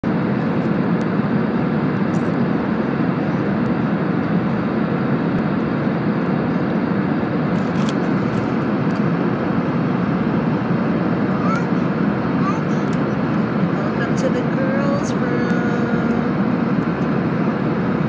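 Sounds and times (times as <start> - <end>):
jet cabin engine drone: 0.0 - 18.0.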